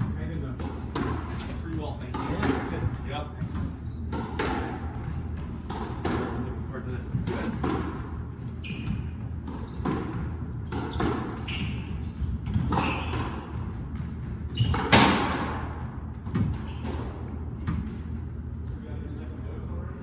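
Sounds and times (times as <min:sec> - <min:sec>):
squash ball hits echoing: 0:00.0 - 0:18.2.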